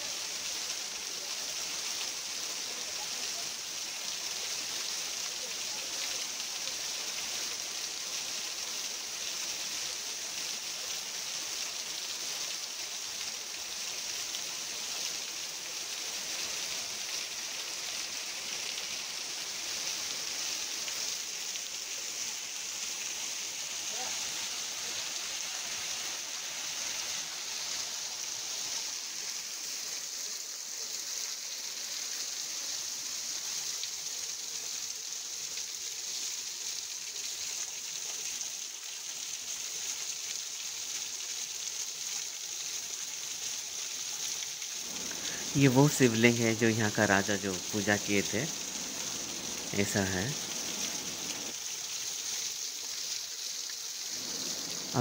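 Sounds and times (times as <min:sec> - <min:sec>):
stream cascading over rocks: 0:00.0 - 0:55.0.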